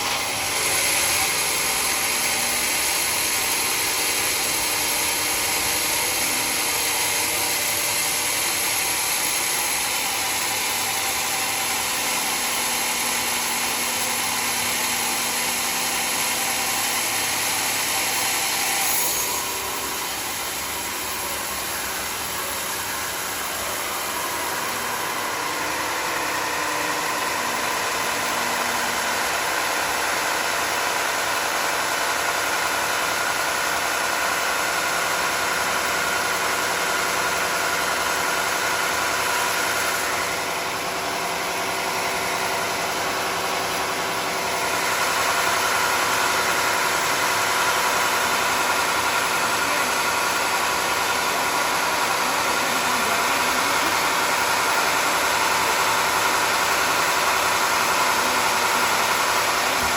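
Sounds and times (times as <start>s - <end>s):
engine-driven saw humming: 0.0s - 59.9s.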